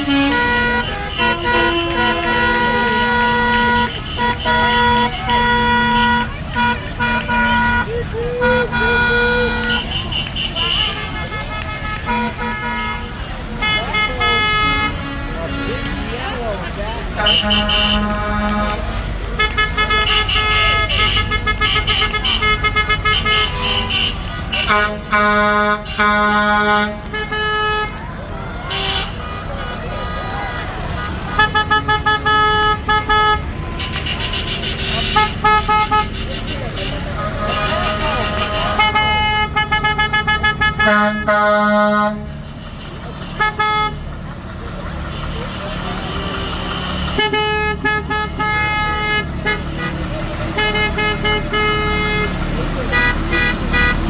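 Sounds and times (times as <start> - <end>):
rumble of passing vehicles: 0.0 - 54.0
vehicle horns honking: 0.0 - 54.0.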